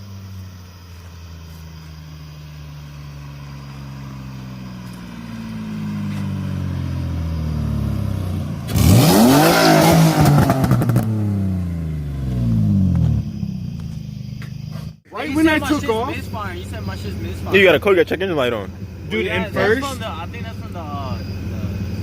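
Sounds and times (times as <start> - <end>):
cars passing by with loud rush: 0.0 - 22.0
racing car engines at full throttle: 0.0 - 22.0.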